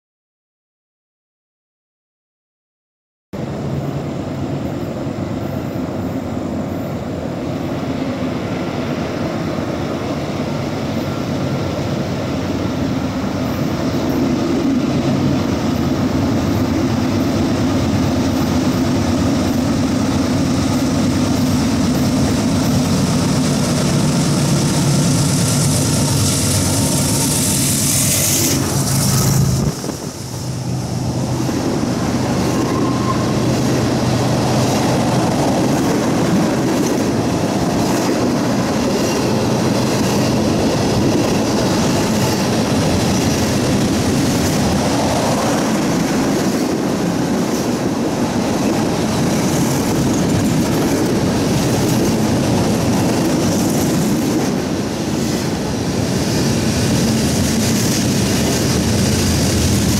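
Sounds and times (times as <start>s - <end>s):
diesel locomotive engines droning: 3.4s - 59.9s.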